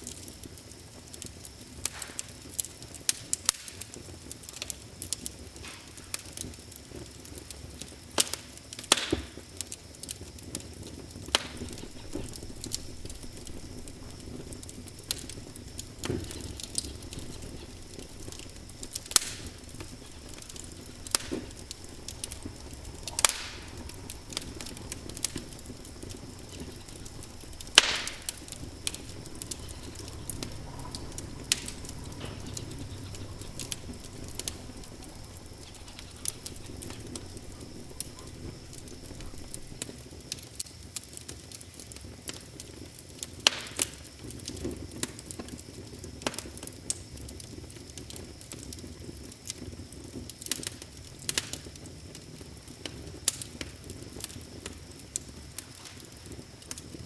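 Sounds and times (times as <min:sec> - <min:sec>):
loud sharp snaps of fire: 0:00.0 - 0:57.0
wood fire crackling: 0:00.0 - 0:57.0.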